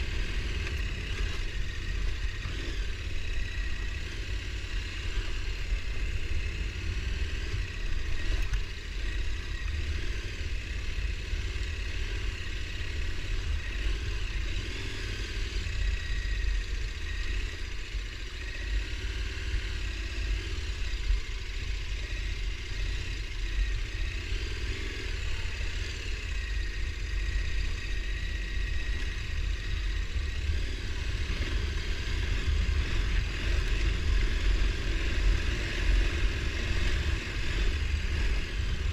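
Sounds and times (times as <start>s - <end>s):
atv engine running: 0.0s - 38.9s
constant low rumble: 0.0s - 38.9s.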